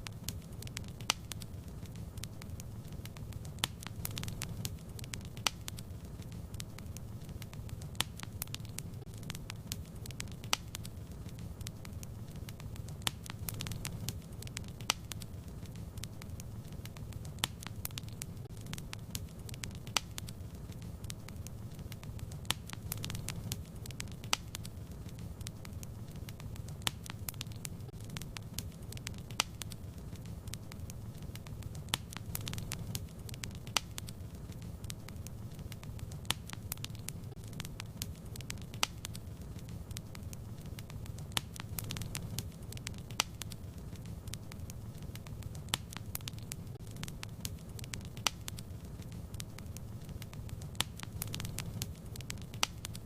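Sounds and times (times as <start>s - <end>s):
fire crackling and popping: 0.0s - 53.0s.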